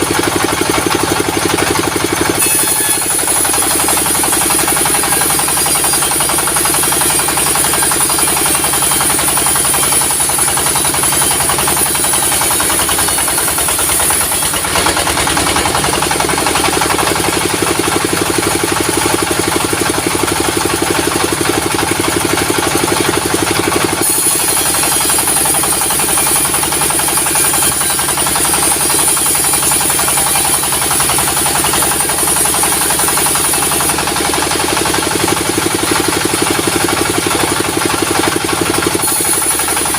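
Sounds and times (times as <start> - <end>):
high saw whine: 0.0 - 39.9
sawmill engine running: 0.0 - 39.9.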